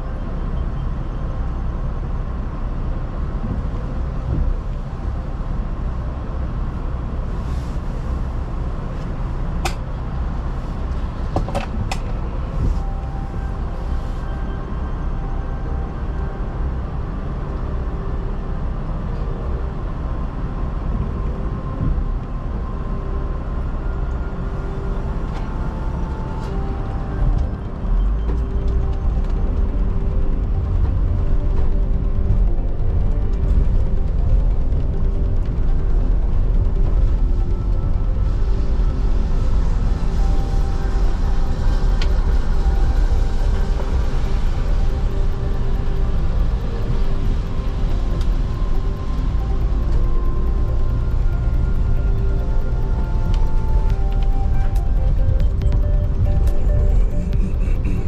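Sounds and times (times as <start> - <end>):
engine and tyre rumble: 0.0 - 58.0.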